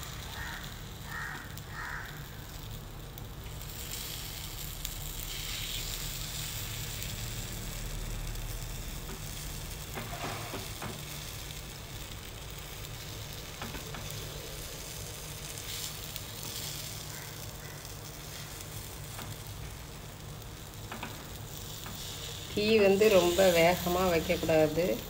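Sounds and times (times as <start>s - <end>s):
batter sizzling in oil: 0.0s - 25.0s.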